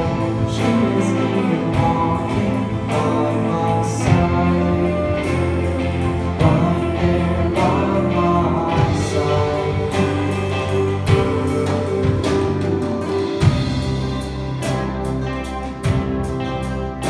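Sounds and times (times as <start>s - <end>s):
gospel band playing: 0.0s - 17.0s.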